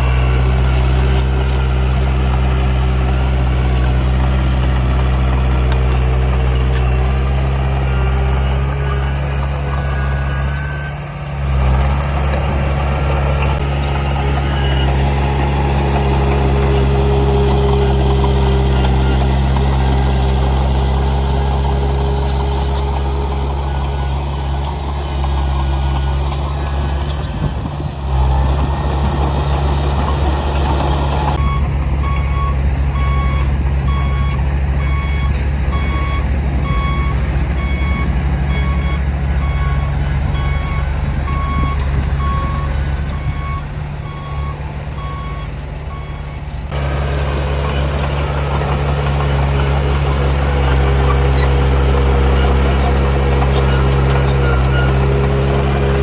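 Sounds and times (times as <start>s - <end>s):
heavy diesel machinery running: 0.0s - 56.0s
reversing alarm beeping: 6.0s - 27.5s, 28.9s - 56.0s.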